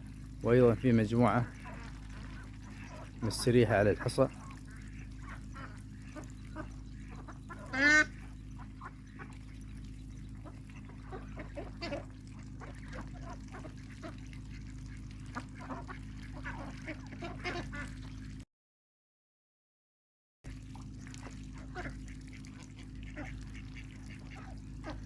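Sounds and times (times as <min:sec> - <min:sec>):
steady low hum: 0:00.0 - 0:18.4, 0:20.5 - 0:25.0
ducks quacking: 0:00.4 - 0:18.3, 0:21.2 - 0:25.0.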